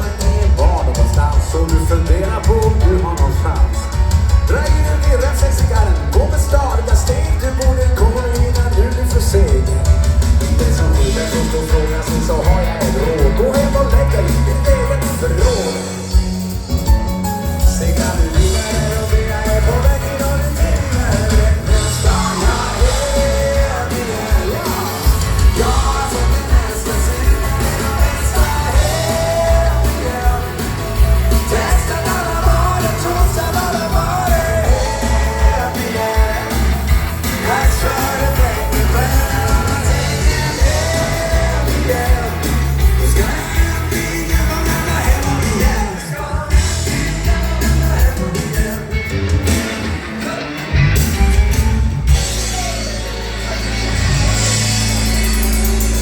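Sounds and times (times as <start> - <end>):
rock and roll dance band: 0.0 - 56.0.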